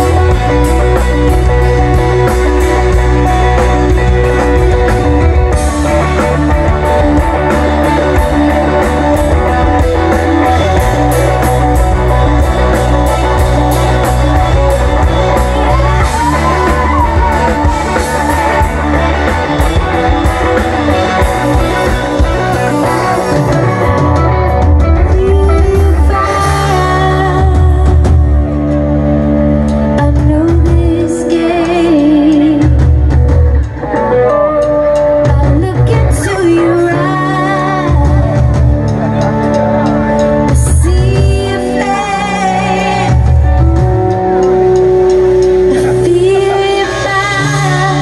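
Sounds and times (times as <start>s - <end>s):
bass guitar: 0.0s - 48.0s
drum kit beat: 0.0s - 48.0s
electric guitars: 0.0s - 48.0s.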